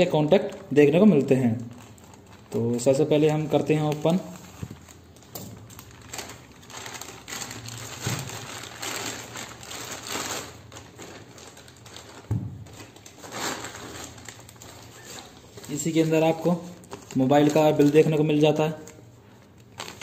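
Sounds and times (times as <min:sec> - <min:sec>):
plastic bag rustling and crinkling: 0:00.0 - 0:20.0.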